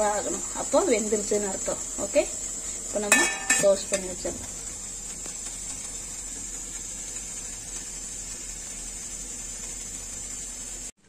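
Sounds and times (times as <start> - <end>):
steam hissing from pot: 0.0 - 11.0.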